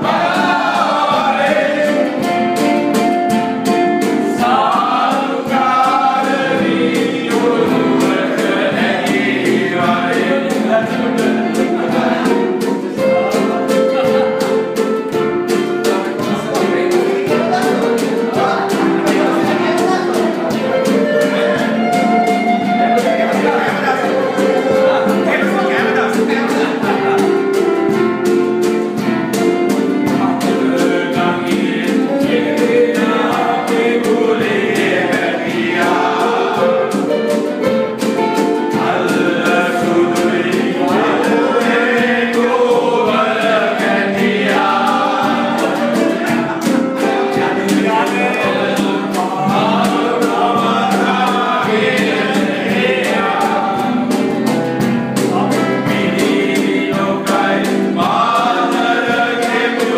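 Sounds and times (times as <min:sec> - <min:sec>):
men singing in chorus: 0:00.0 - 0:02.7, 0:03.8 - 0:14.6, 0:15.6 - 0:27.7, 0:29.7 - 0:37.3, 0:38.6 - 0:54.6, 0:55.2 - 0:59.9.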